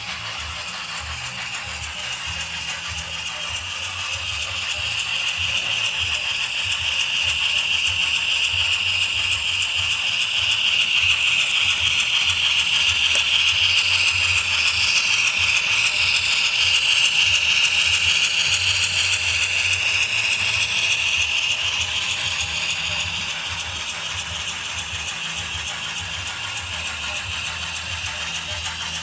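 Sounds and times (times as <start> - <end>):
model train motor whine: 0.0 - 29.0
wheels rumbling on track: 0.0 - 29.0.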